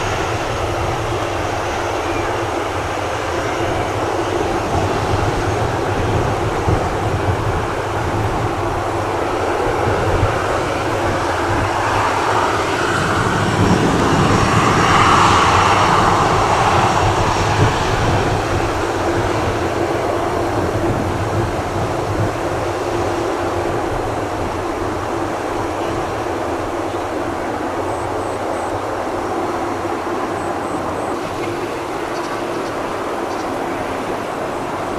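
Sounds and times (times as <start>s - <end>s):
jet airliner passing: 0.0s - 34.9s.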